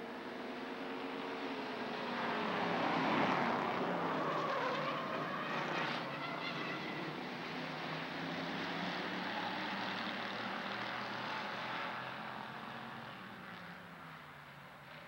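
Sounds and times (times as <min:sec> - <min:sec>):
race car engines passing: 0:00.1 - 0:15.0.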